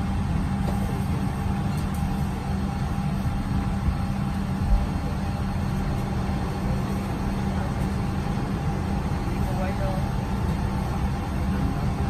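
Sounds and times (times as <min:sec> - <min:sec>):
aircraft cabin rumble and hum: 0:00.0 - 0:12.0.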